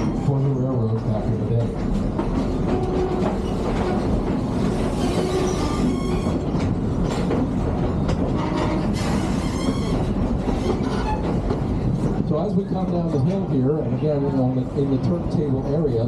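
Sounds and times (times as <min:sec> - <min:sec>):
train wheels clattering on track: 0:00.0 - 0:16.0.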